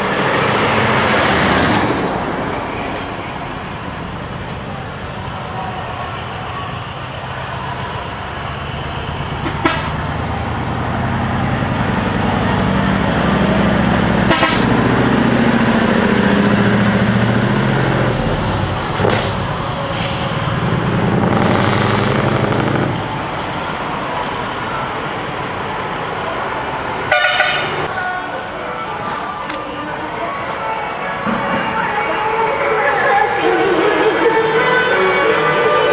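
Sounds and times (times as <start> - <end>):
diesel truck engine passing: 0.0 - 35.9.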